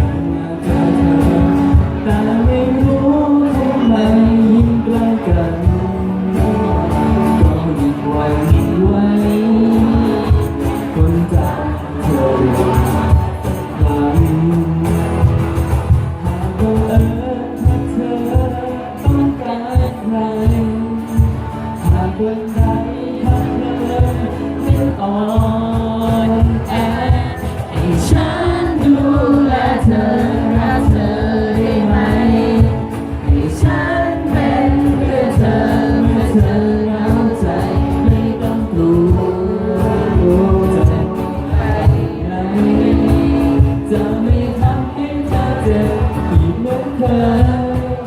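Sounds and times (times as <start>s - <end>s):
pop song with singing: 0.0s - 48.0s.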